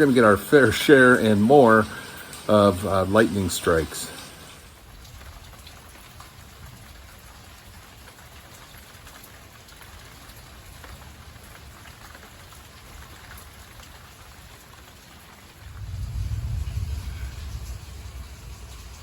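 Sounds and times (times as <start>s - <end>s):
rain falling: 0.0s - 19.0s
raindrop ticks: 0.0s - 19.0s.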